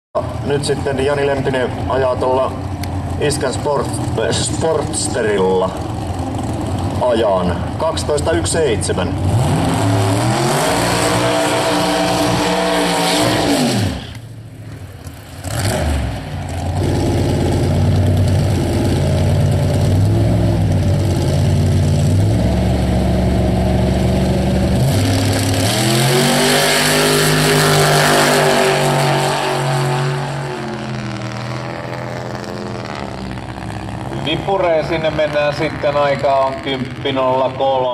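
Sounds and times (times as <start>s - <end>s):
drag racing engine revving: 0.2s - 37.9s.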